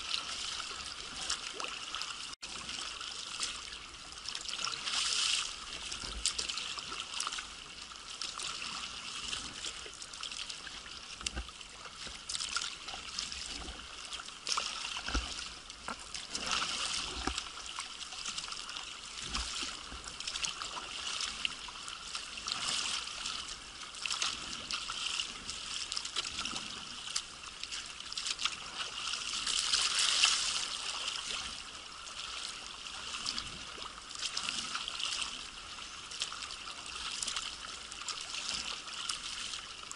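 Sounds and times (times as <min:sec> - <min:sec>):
paddle splashing water: 0:00.0 - 0:39.9
small waves against hull: 0:00.0 - 0:39.9.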